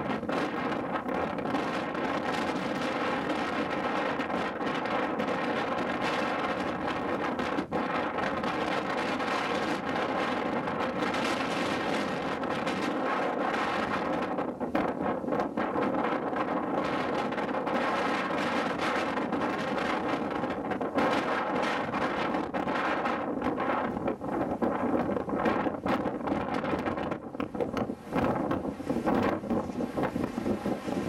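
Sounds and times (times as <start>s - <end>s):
wind blowing over microphone: 0.0s - 31.0s.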